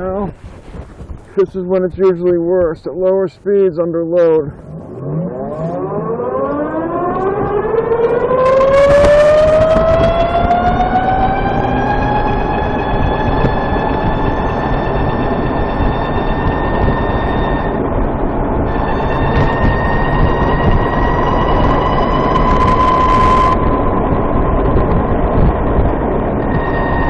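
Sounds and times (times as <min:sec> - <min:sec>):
low engine rumble: 0:00.0 - 0:27.0
motorcycle transmission whine: 0:00.0 - 0:27.0.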